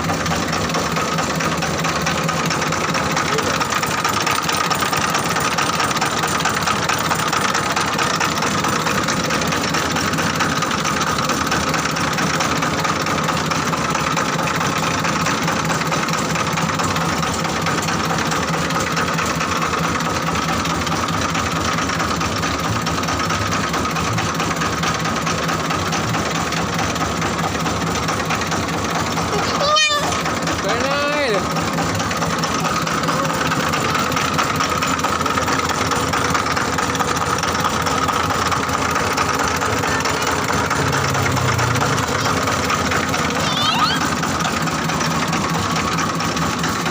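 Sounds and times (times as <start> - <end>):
diesel engine knocking: 0.0 - 46.9.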